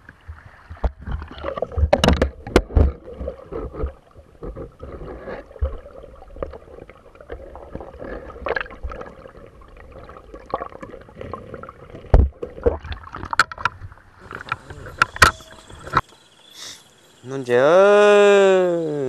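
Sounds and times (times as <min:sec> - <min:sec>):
knocks and splashes in water: 0:00.0 - 0:16.1
water sloshing and gurgling: 0:00.0 - 0:16.4.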